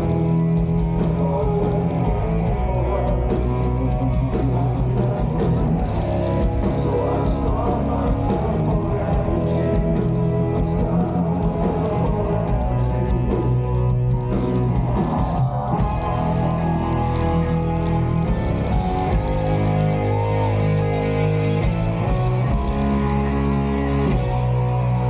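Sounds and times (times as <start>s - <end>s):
metal band playing live: 0.0s - 25.0s.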